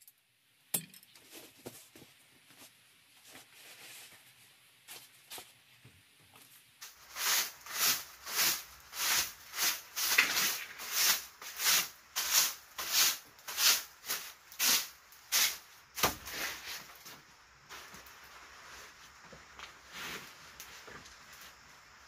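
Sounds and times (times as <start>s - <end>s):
broom sweeping wooden floor: 1.3s - 5.6s, 6.8s - 22.0s.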